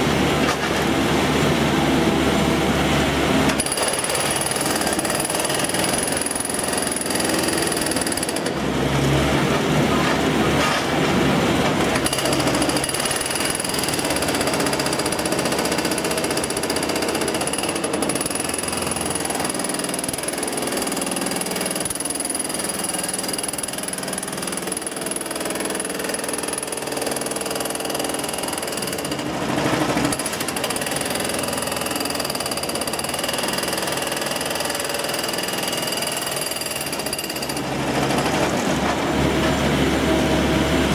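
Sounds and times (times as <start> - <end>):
hydraulic breaker hammering: 3.5 - 8.7, 10.8 - 39.0.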